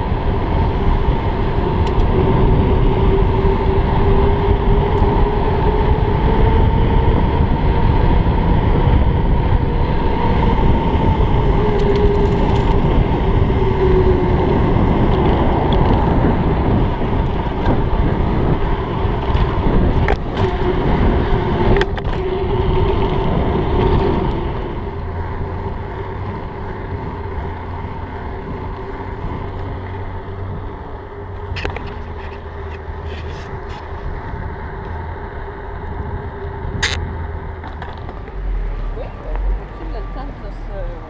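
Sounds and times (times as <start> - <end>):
bike tyre rumble on pavement: 0.0 - 41.0
wind on microphone: 0.0 - 41.0
bike clicks and rattles: 0.6 - 5.7, 10.2 - 30.6, 31.4 - 39.8.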